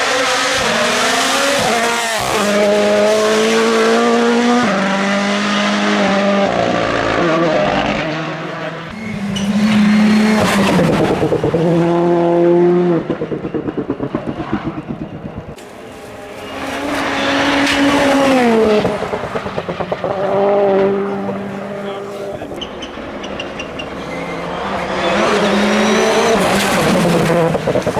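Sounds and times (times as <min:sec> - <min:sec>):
rally car engine at full throttle: 0:00.0 - 0:27.9.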